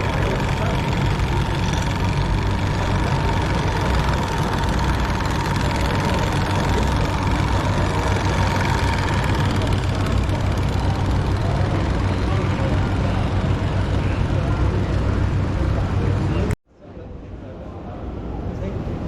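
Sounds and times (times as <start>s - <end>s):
faint steady whine: 0.0s - 16.5s
low engine rumble: 0.0s - 16.6s.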